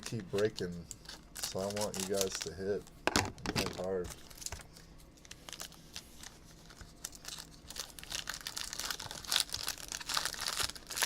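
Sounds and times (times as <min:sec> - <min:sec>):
plastic wrapper crinkling and tearing: 0:00.0 - 0:02.8, 0:03.4 - 0:11.0.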